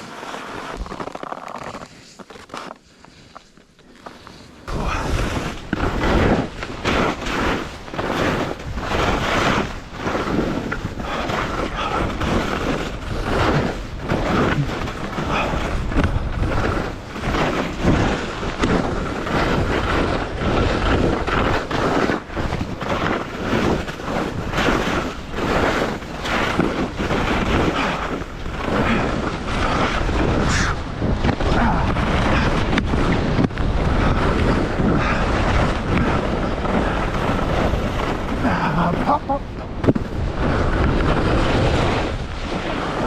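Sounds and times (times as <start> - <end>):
skis scraping on snow: 0.0 - 43.0
wind buffeting microphone: 4.6 - 43.0.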